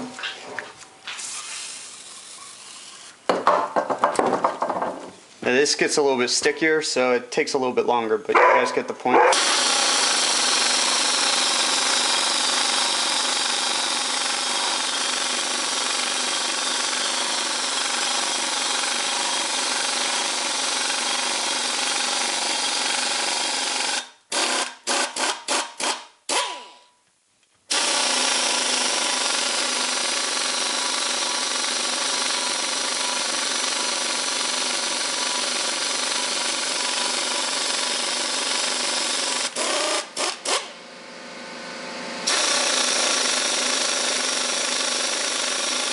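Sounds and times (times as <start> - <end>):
air impact wrench running: 1.1 - 3.1, 9.3 - 26.9, 27.7 - 40.8, 41.5 - 45.9.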